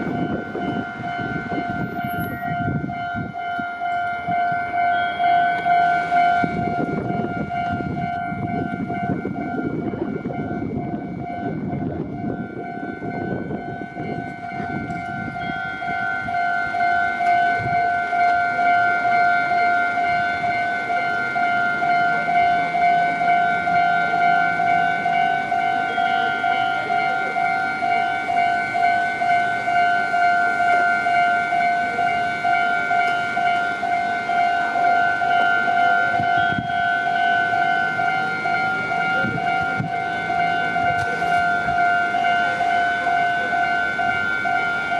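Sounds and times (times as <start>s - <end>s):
level-crossing warning bell: 0.0s - 44.9s
train running: 0.0s - 44.9s.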